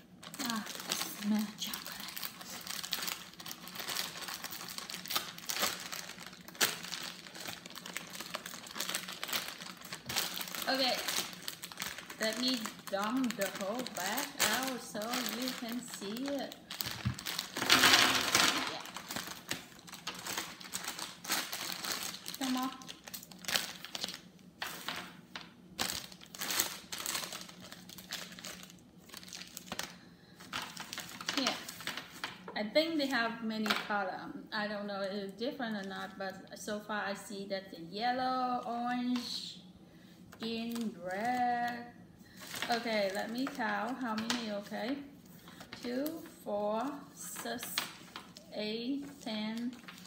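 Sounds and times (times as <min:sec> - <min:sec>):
plastic bag crinkling: 0:00.1 - 0:33.9, 0:40.4 - 0:50.0.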